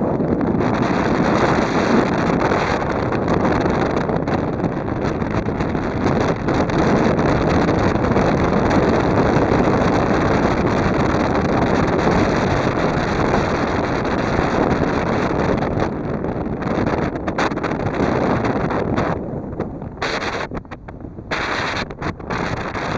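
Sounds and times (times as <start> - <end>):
boat running noise: 0.0 - 22.9
wind buffeting microphone: 0.0 - 22.9.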